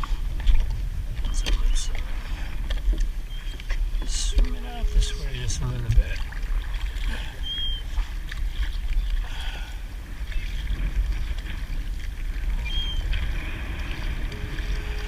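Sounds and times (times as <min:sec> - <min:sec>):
water around a kayak: 0:00.0 - 0:15.0
wind: 0:00.0 - 0:15.0.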